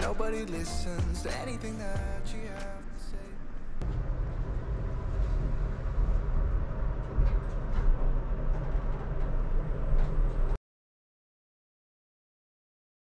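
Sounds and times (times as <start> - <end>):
elevator doors closing: 0.0 - 10.6
elevator rumble: 0.0 - 10.6.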